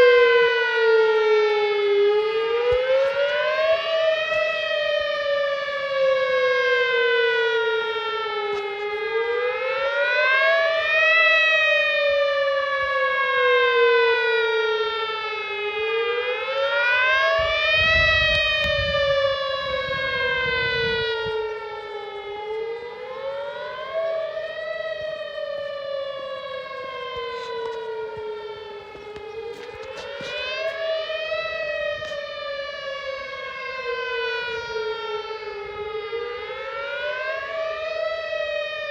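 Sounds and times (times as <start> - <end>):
outdoor warning siren wailing: 0.0 - 38.9.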